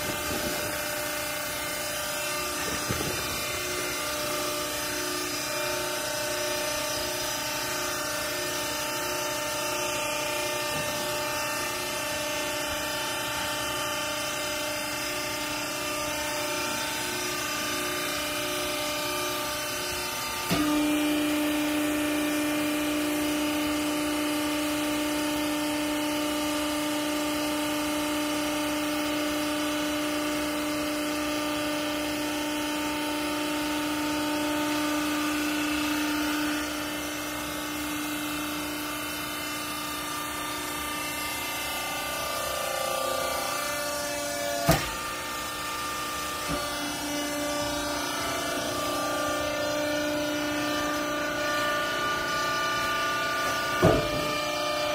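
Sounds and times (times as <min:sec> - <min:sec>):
hydraulic motor hum: 0:00.0 - 0:54.9.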